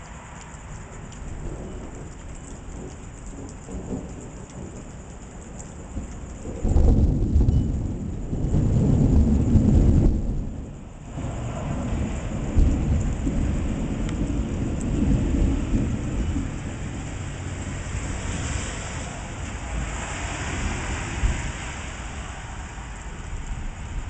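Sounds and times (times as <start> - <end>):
steady rain: 0.0 - 24.0
rolling thunder: 1.1 - 24.0.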